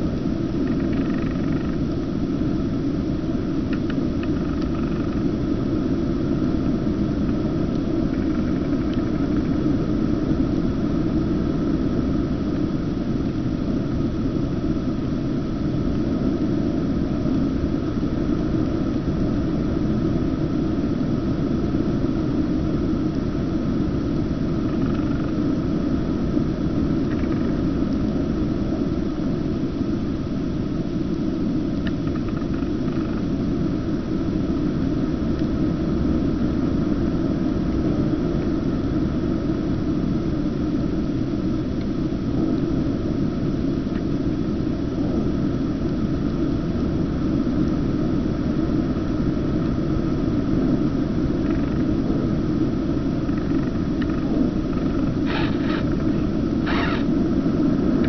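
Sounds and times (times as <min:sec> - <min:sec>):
aircraft engine and airflow rumble: 0:00.0 - 0:58.0.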